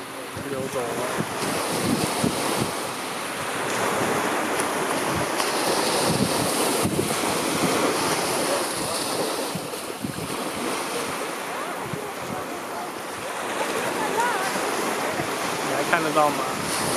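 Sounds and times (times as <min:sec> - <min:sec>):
sea water lapping against rocks: 0:00.0 - 0:16.9
wind on microphone: 0:00.0 - 0:16.9.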